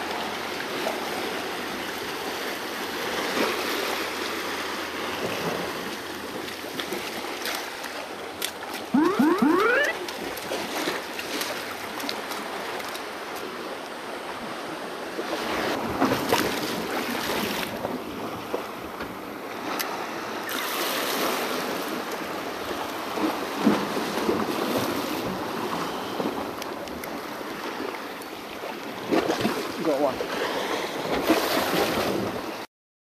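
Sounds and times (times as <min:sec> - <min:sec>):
waves splashing against rock: 0:00.0 - 0:08.9, 0:09.8 - 0:13.8, 0:15.1 - 0:32.6.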